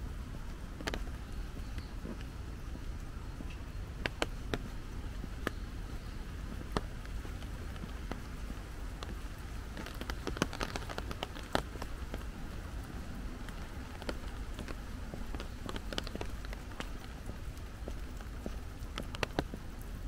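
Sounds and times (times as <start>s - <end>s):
light rain falling: 0.0s - 20.0s.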